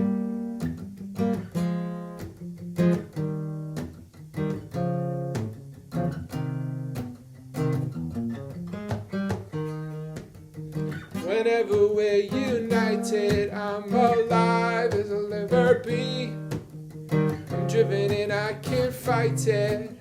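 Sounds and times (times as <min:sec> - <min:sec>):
acoustic guitar chords: 0:00.0 - 0:20.0.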